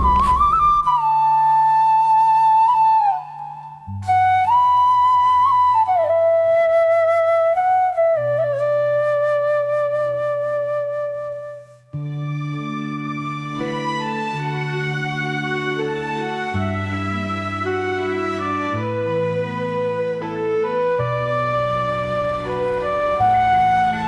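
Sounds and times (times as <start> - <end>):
slow flute melody: 0.0 - 24.0.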